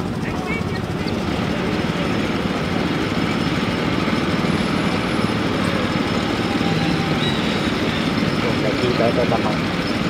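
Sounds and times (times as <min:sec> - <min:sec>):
engine running steadily: 0:00.0 - 0:10.0.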